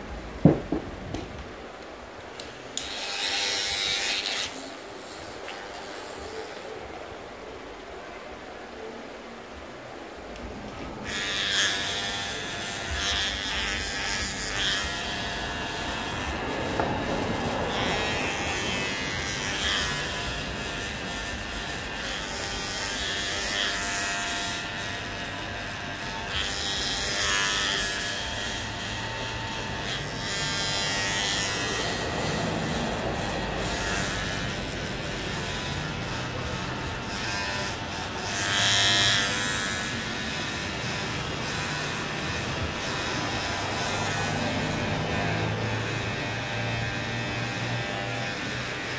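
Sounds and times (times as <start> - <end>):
electric hair clippers buzzing: 2.3 - 6.9, 10.4 - 48.9.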